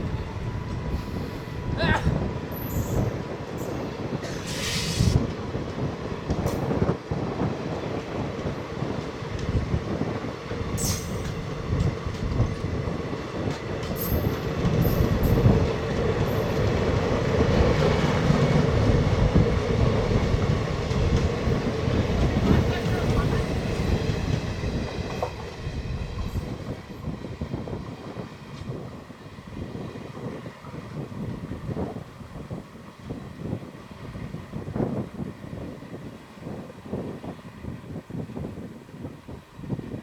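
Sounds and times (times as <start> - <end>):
train wheels rumbling and rattling: 0.0 - 40.0.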